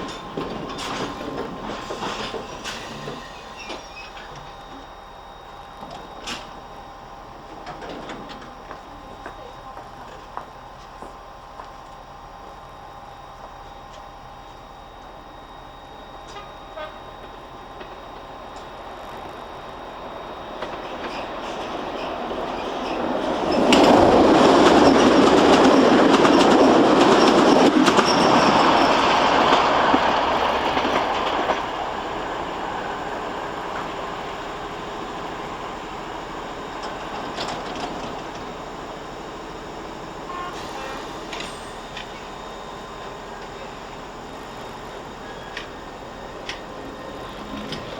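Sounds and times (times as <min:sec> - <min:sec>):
train passing on rails: 0:00.0 - 0:47.9.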